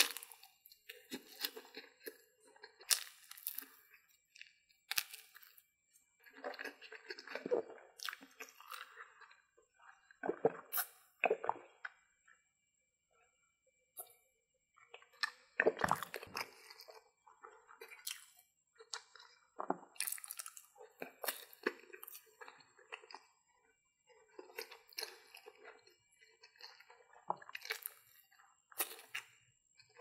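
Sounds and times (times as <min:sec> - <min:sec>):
wet chewing sounds: 0:00.0 - 0:05.6, 0:06.2 - 0:12.0, 0:14.9 - 0:30.0.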